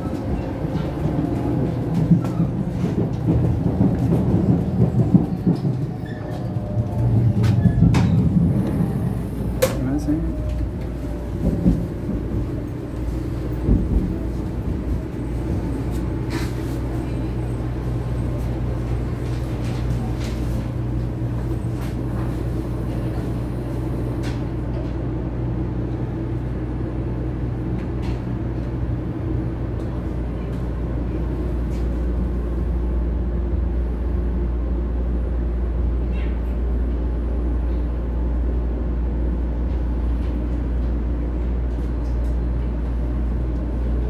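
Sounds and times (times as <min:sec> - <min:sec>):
train cabin rumble and hum: 0:00.0 - 0:44.0.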